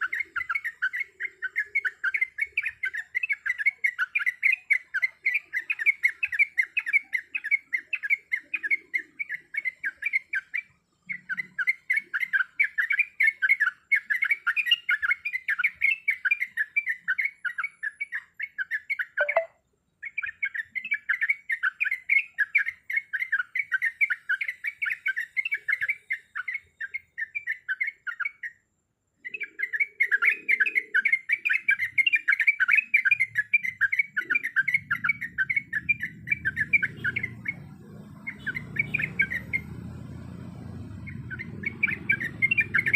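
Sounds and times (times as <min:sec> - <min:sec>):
bird singing bubbling chatter: 0:00.0 - 0:28.6, 0:29.2 - 0:42.9.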